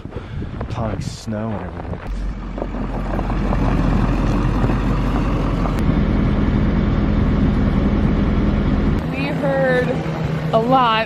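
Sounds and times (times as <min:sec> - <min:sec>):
vehicle engine running: 0:01.3 - 0:11.0.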